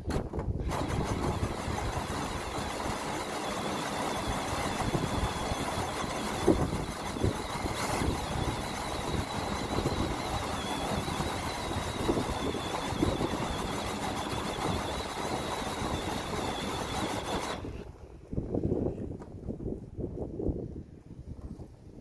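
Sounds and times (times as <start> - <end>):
machine running noise: 0.0 - 18.0.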